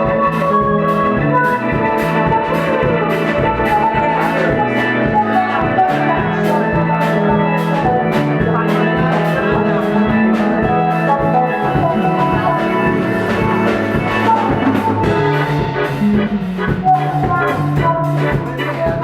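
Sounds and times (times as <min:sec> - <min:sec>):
drums beating: 0:00.0 - 0:19.0
live rock band playing: 0:00.0 - 0:19.0.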